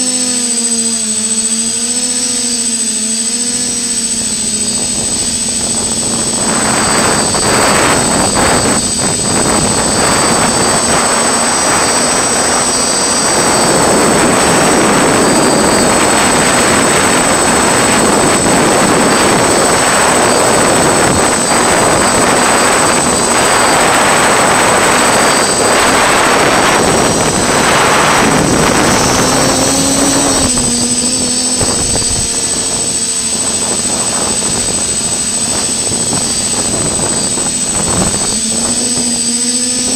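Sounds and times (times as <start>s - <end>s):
drone motors whining: 0.0s - 39.9s
rushing air: 4.6s - 39.9s.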